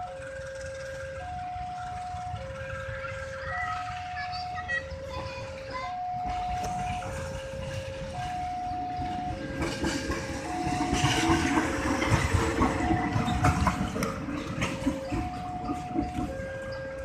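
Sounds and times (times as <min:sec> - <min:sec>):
level-crossing two-tone alarm: 0:00.0 - 0:17.0
train passing rumbling: 0:00.0 - 0:17.0
wheels clicking over rail joints: 0:00.0 - 0:17.0.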